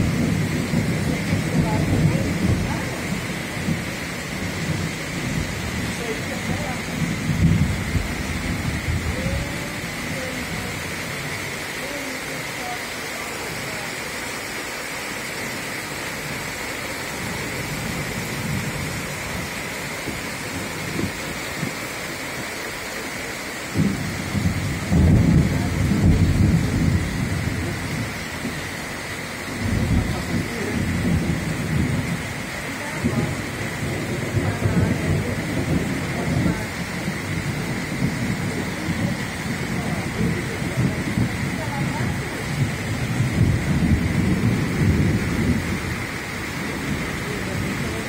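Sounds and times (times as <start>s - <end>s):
low rolling thunder: 0.0s - 12.0s, 16.2s - 22.0s, 23.7s - 48.0s
heavy rain pouring: 0.0s - 48.0s.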